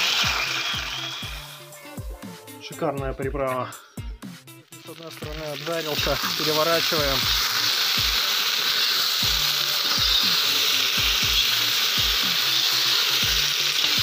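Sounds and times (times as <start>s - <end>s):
potatoes sizzling in hot fat: 0.0s - 2.0s, 4.7s - 14.0s.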